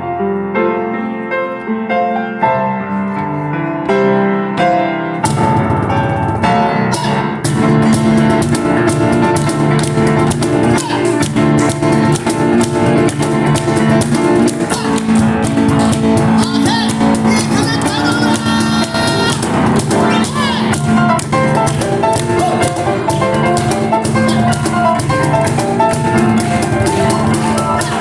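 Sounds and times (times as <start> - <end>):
piano playing fast line: 0.0 - 28.0
cajon strikes: 5.2 - 28.0.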